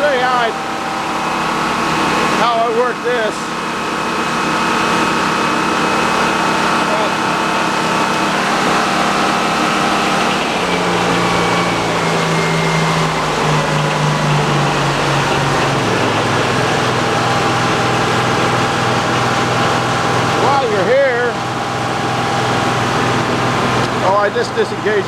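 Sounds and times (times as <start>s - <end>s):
sawmill circular saw running: 0.0s - 25.0s.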